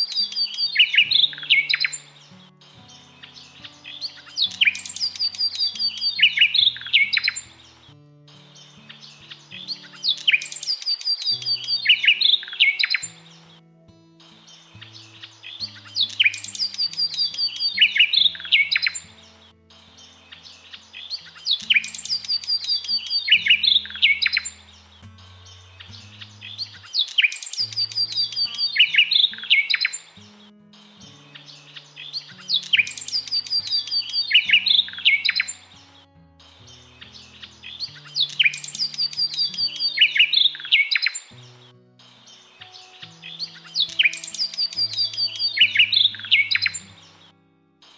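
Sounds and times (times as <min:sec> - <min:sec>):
high bird chirps and trills: 0:00.0 - 0:13.6, 0:14.2 - 0:47.3
soft background music: 0:00.0 - 0:47.9.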